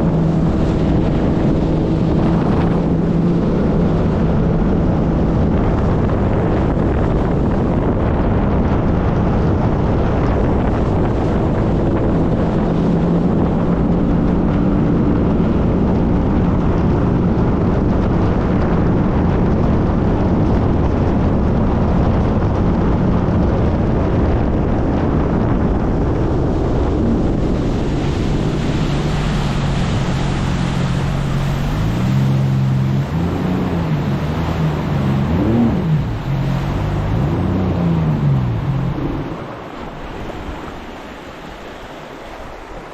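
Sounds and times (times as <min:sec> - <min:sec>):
jet ski engine running: 0:00.0 - 0:42.9
wind and water spray rushing: 0:00.0 - 0:42.9.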